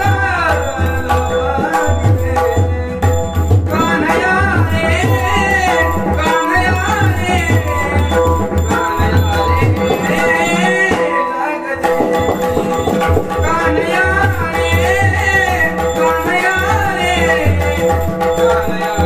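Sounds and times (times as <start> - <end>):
man singing: 0.0 - 19.0.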